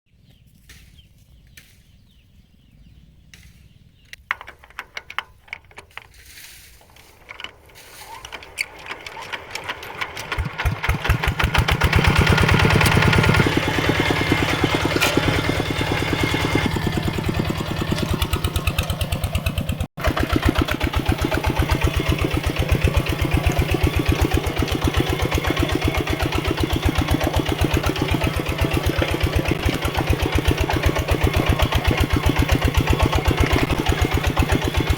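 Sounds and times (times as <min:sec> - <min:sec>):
tractor engine running: 0:03.3 - 0:34.9.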